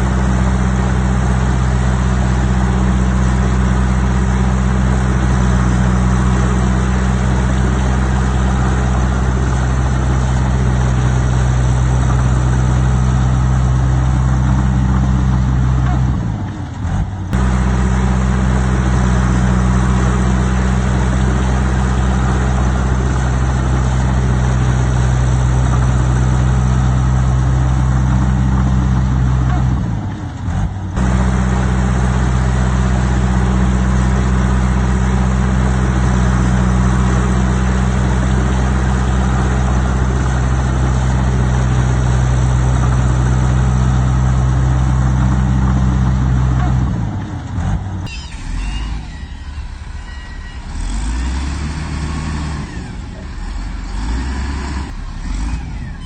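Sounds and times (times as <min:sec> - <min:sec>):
heavy machine diesel engine running: 0:00.0 - 0:56.0.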